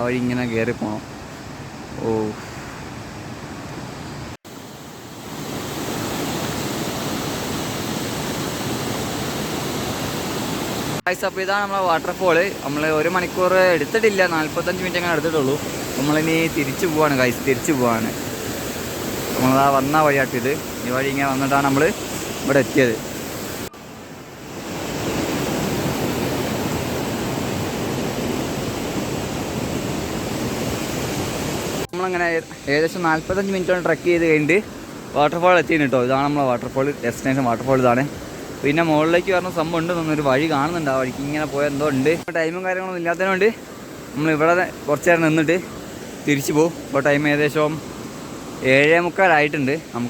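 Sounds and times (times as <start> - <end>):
waterfall rushing: 4.5 - 50.0.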